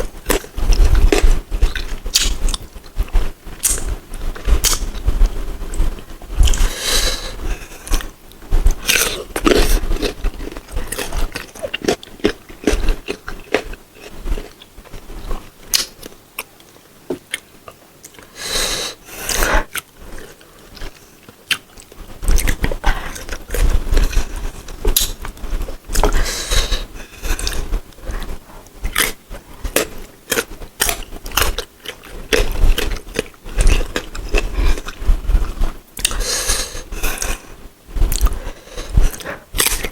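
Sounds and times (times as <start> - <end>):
crunchy biting and chewing: 0.2 - 2.7, 4.6 - 5.0, 8.7 - 16.5, 17.1 - 37.5, 38.1 - 39.9.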